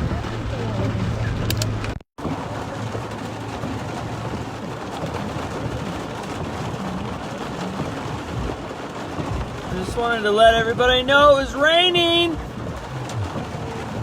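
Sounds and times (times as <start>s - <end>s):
rain on a car: 0.0s - 14.0s
tyres hissing on wet road: 2.2s - 14.0s.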